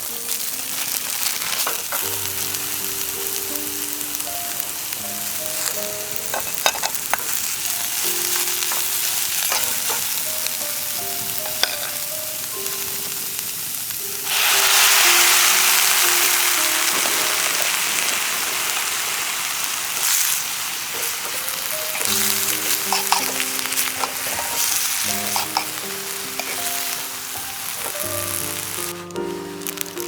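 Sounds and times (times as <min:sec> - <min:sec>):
food sizzling in a frying pan: 0:00.0 - 0:30.0
loud bright hiss: 0:00.0 - 0:30.0
soft background music: 0:00.0 - 0:30.0.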